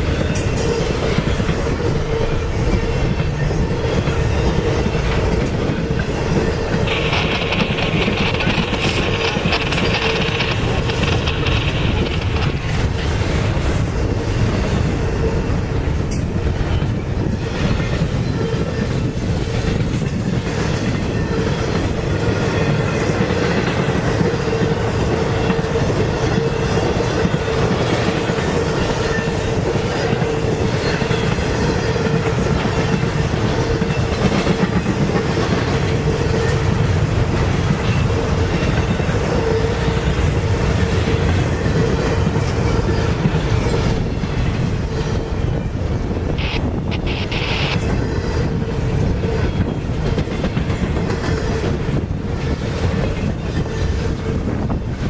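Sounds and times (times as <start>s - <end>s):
train wheels clicking over rail joints: 0.0s - 15.0s, 15.8s - 55.0s
ringing tone from wheels on rails: 0.0s - 55.0s.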